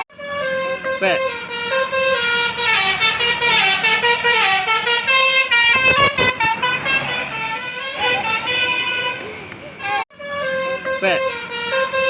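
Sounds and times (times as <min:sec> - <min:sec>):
bus horn playing melody: 0:00.0 - 0:12.0.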